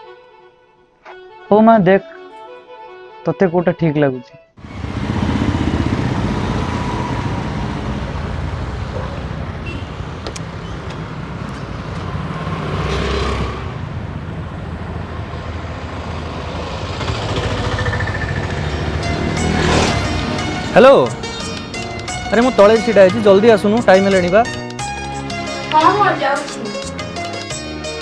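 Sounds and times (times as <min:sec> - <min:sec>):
motorbike and scooter engines passing: 0:04.6 - 0:27.6.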